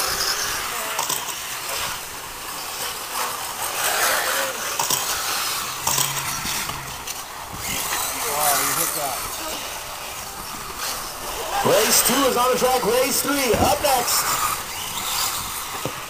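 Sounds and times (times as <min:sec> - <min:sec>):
high hiss of motors and tyres: 0:00.0 - 0:16.0.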